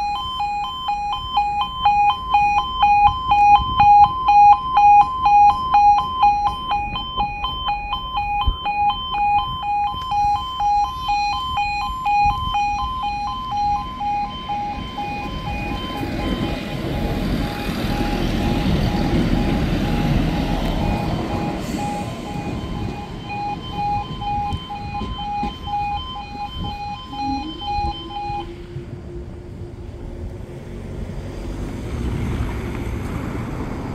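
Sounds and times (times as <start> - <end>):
level crossing alarm: 0.0 - 30.0
diesel train passing: 4.2 - 33.9.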